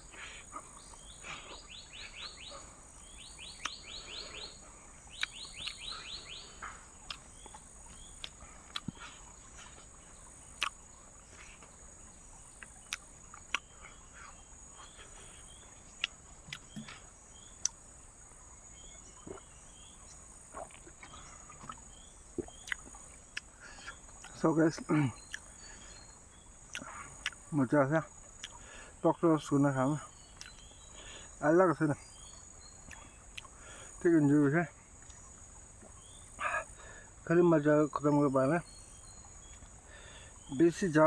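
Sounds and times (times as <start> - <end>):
insect chirps: 0.0 - 41.0
insects trilling: 0.0 - 41.0.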